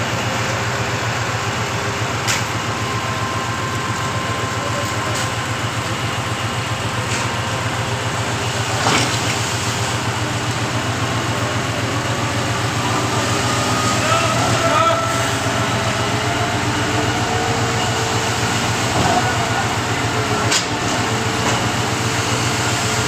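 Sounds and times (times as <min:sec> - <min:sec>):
pump engine running: 0:00.0 - 0:23.0.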